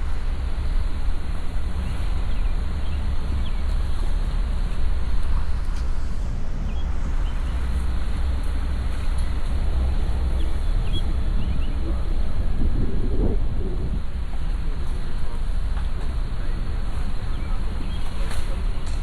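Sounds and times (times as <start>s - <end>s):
car driving slowly: 0.0s - 19.0s.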